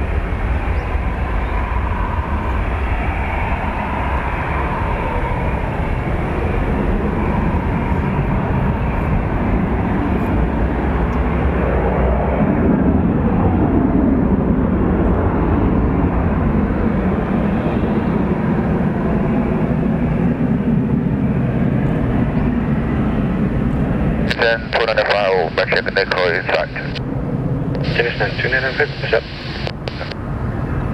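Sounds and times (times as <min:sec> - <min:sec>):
jet engines rumbling: 0:00.0 - 0:30.9.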